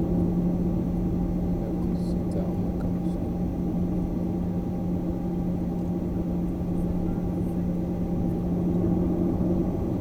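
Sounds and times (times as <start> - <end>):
airliner cabin engine hum: 0.0 - 10.0.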